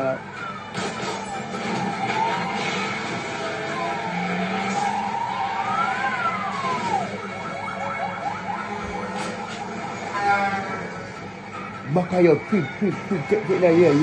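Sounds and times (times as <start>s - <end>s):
siren wailing and yelping: 0.0s - 14.0s
vehicle running: 0.0s - 14.0s.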